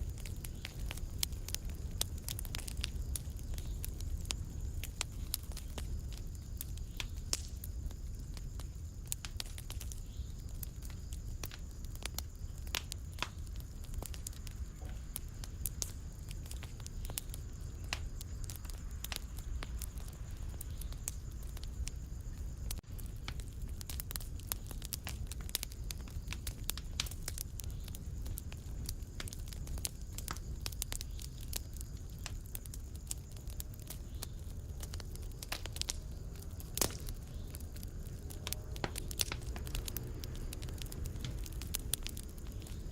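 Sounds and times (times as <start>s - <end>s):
fireplace fire crackling: 0.0s - 42.9s.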